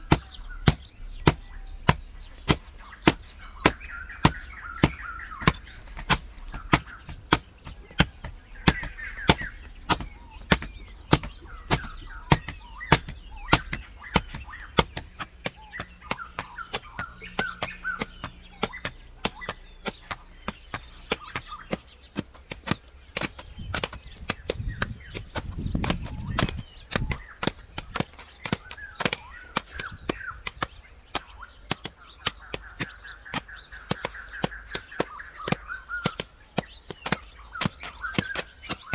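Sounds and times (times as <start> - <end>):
birds chirping: 0.0 - 38.9
hoe chopping into clay soil: 0.0 - 38.9.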